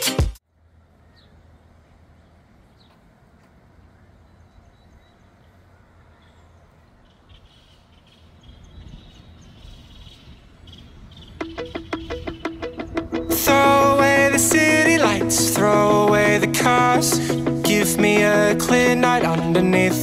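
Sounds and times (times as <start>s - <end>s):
small birds chirping: 0.7s - 20.0s.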